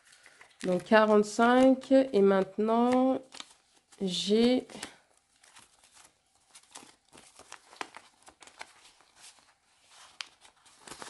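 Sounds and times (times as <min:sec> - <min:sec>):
banknotes crinkling and rustling: 0:00.0 - 0:11.0.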